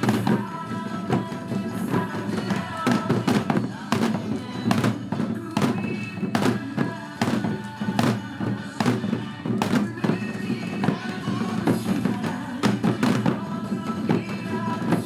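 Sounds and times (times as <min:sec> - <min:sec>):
backing music: 0:00.0 - 0:15.0
hourglass drums played by group: 0:00.0 - 0:15.0.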